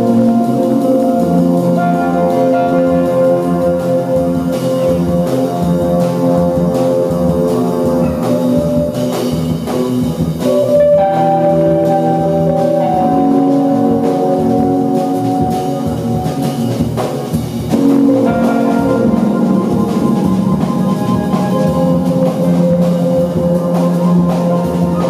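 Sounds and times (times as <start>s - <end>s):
drums: 0.0s - 25.0s
synthesizer chords: 0.0s - 25.0s
upright bass: 0.0s - 25.0s.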